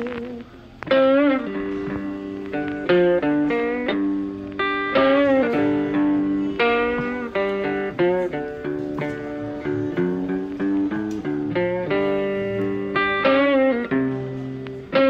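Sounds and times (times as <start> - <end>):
plucked guitar notes: 0.0 - 15.0.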